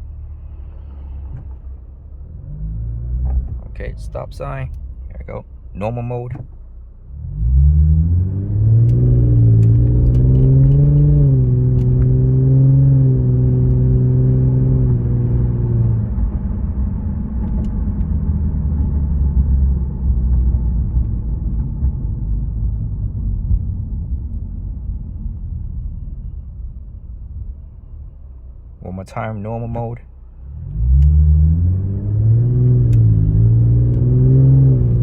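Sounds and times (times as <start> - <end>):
car exhaust rumble: 0.0 - 35.0.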